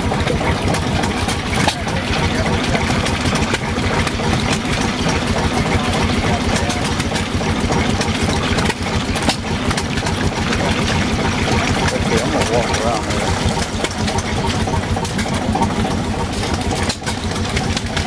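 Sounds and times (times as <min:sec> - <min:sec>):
stationary engines chugging: 0:00.0 - 0:18.0.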